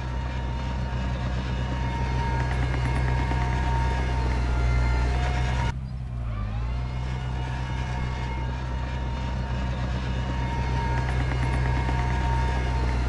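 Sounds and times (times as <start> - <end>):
bulldozer diesel engine droning: 0.0 - 13.0
high engine whine: 0.0 - 13.0.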